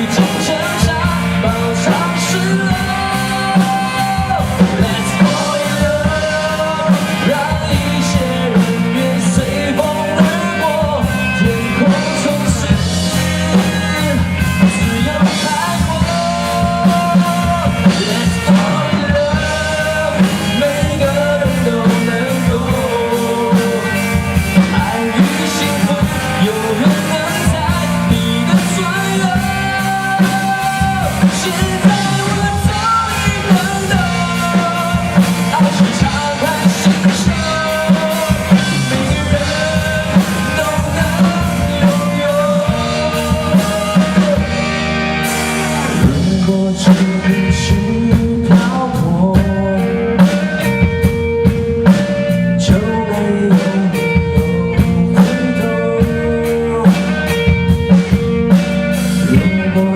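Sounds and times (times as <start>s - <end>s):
bass guitar: 0.0s - 59.9s
drums: 0.0s - 59.9s
electric guitar lead line: 0.0s - 59.9s.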